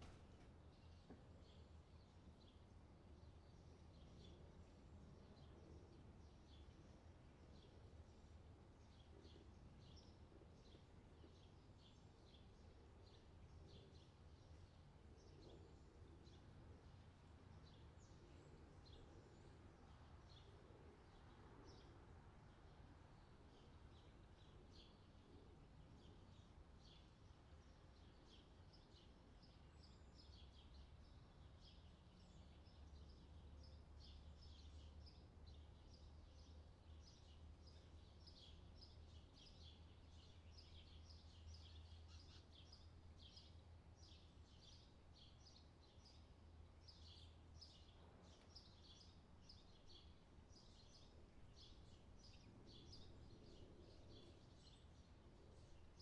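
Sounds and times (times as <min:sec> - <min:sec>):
faint bird chirping: 0:00.0 - 0:56.0
faint low hum: 0:00.0 - 0:56.0.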